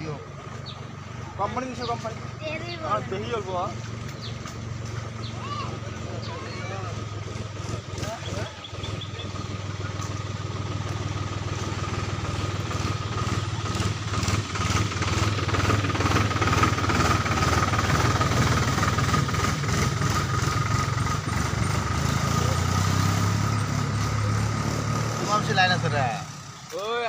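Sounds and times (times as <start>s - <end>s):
engine humming with thin whine: 0.0s - 27.0s.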